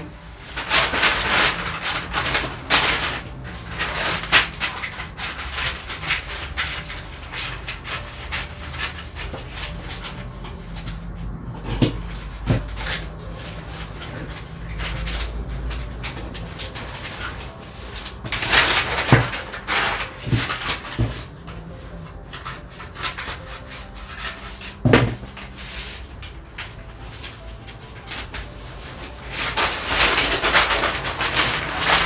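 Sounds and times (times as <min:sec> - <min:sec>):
scissors cutting paper: 0:00.0 - 0:32.0
stiff paper rustling: 0:00.0 - 0:32.0.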